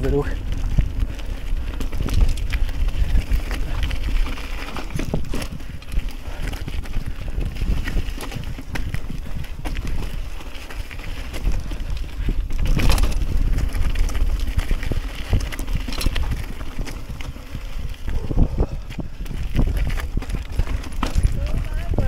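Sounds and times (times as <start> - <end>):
bike knocking and rattling: 0.0 - 22.0
bike tyres crunching over stones: 0.0 - 22.0
wind rumble on microphone: 0.0 - 22.0.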